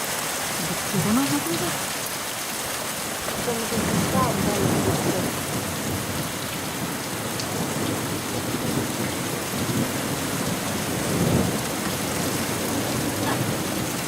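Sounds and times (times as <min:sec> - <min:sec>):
heavy rain falling: 0:00.0 - 0:14.0
low thunder rumble: 0:00.0 - 0:14.0.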